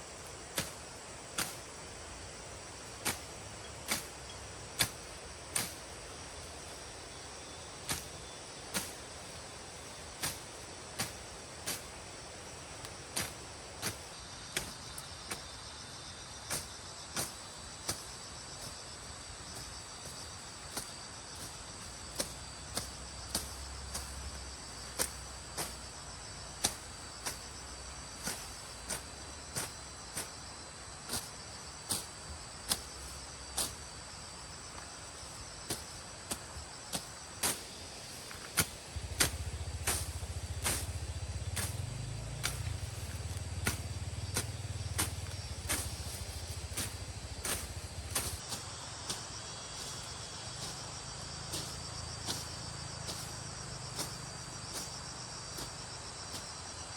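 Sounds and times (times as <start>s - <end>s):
insect chirring: 0.0s - 56.9s.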